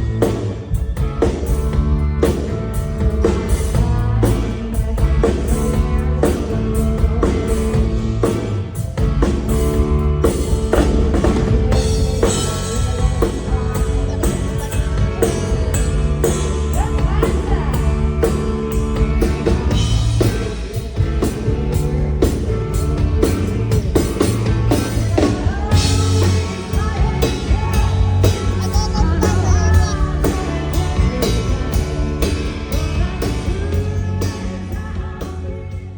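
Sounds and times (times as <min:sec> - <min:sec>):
drum kit beat: 0:00.0 - 0:35.9
live pop-country band: 0:00.0 - 0:35.9.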